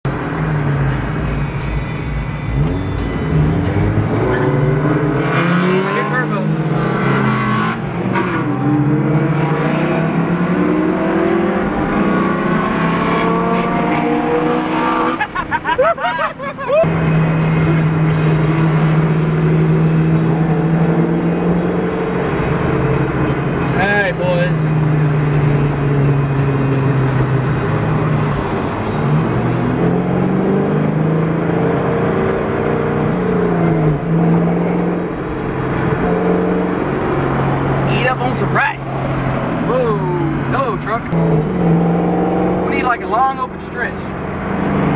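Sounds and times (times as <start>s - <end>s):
car engine revving: 0.1s - 44.9s.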